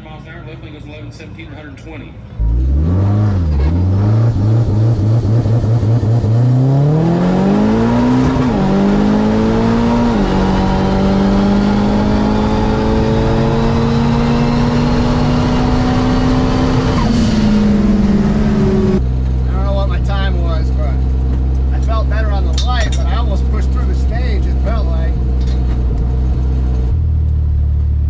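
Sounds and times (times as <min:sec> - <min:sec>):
drag car engine revving: 0:02.4 - 0:28.0.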